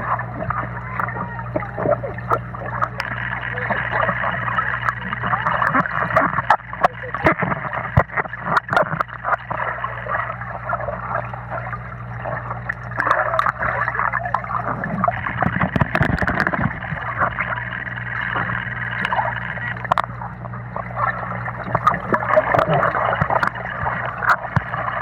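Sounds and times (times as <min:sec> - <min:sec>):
steady low hum: 0:00.0 - 0:25.0
water bubbling and gurgling underwater: 0:00.0 - 0:25.0.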